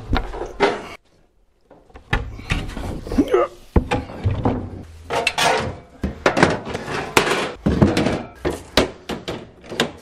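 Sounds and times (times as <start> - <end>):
wooden boards and metal parts clattering: 0.0 - 1.0, 1.7 - 10.0
scraping: 0.0 - 10.0.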